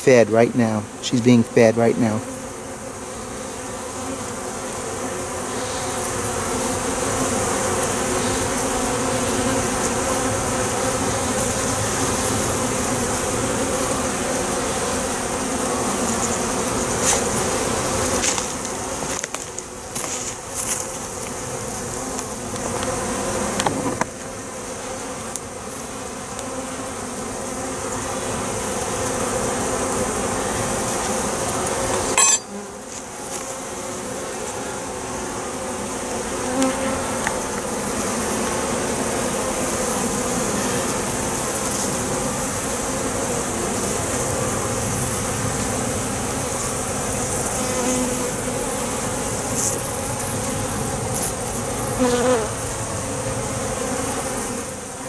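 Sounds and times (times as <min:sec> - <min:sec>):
honeybees humming: 0:00.0 - 0:55.0.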